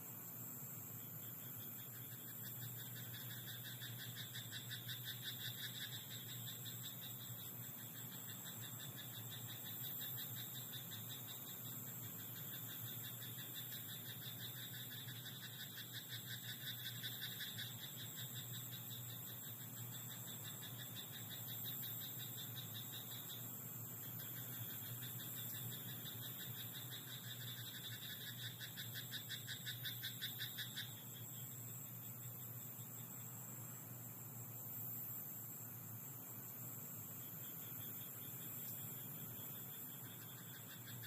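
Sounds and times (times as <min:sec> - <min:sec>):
frogs croaking: 0:00.0 - 0:41.0.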